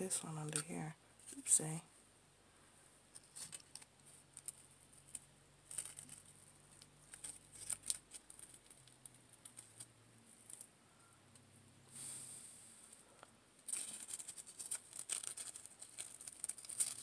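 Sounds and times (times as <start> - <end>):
faint low hum: 0.0 - 17.0
artificial flowers rustling: 2.5 - 11.2, 11.8 - 17.0.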